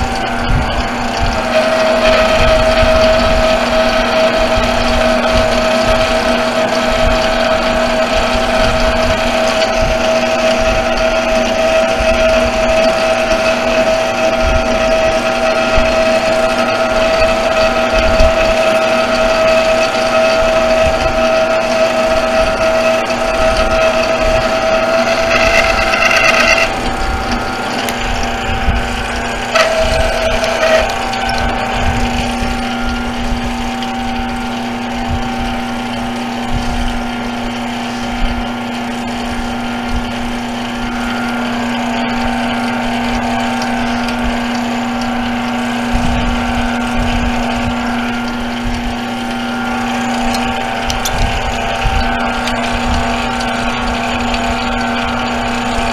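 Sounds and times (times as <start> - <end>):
metal lathe humming: 0.0 - 55.9.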